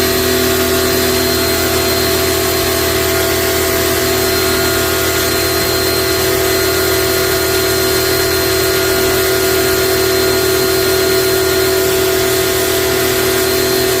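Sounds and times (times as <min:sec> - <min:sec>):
machine motor running: 0:00.0 - 0:14.0.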